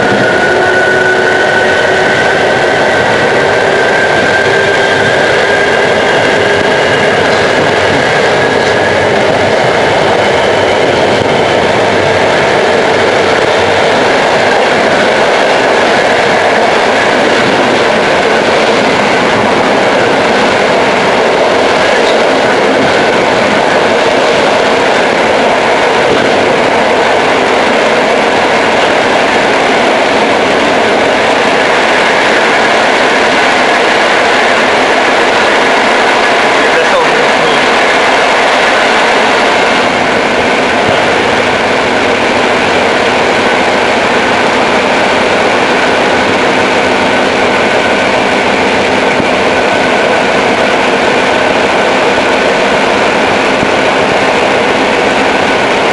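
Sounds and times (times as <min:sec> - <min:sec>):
train running noise inside carriage: 0:00.0 - 0:55.9.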